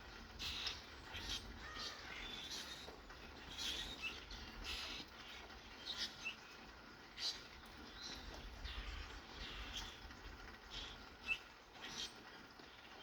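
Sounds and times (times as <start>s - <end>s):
faint hiss of rain: 0.0s - 13.0s
small birds chirping: 0.3s - 13.0s.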